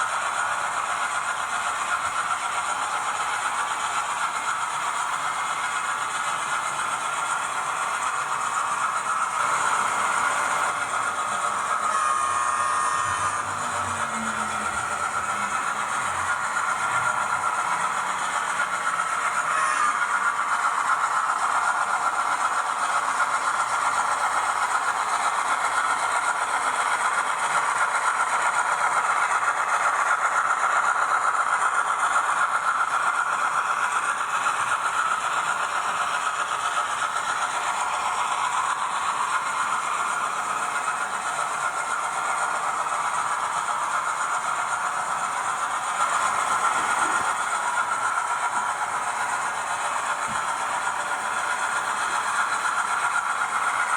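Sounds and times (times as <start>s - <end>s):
model train running rattle: 0.0s - 53.9s
tinny diesel engine sound: 0.0s - 53.9s.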